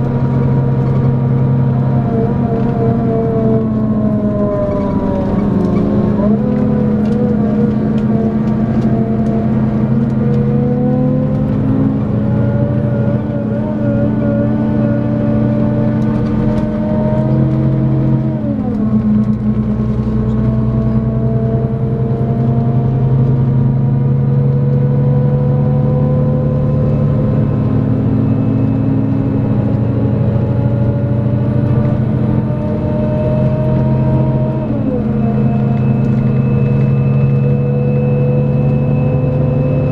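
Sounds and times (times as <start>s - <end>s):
bus engine whining accelerating: 0.0s - 39.9s.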